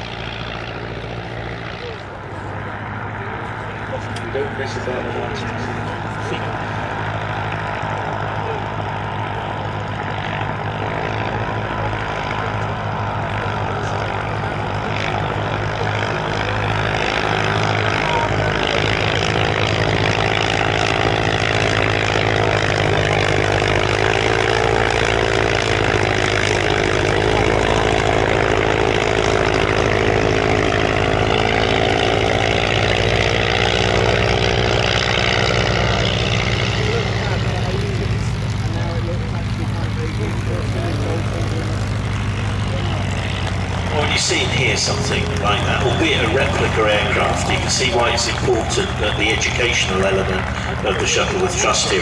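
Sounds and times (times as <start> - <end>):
propeller plane engine overhead: 0.0 - 52.0.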